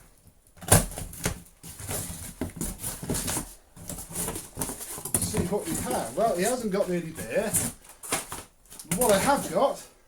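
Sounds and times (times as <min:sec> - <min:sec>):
cardboard box rustling and crackling: 0:00.6 - 0:09.7.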